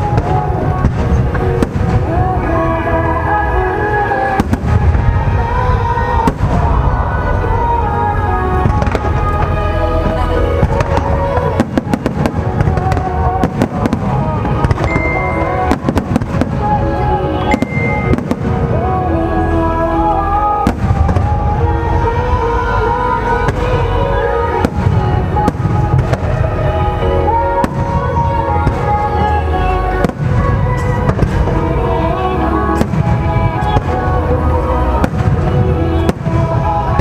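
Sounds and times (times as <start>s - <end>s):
deep rumble: 0.0s - 37.0s
fireworks bursting and crackling: 0.0s - 37.0s
music playing: 0.0s - 37.0s.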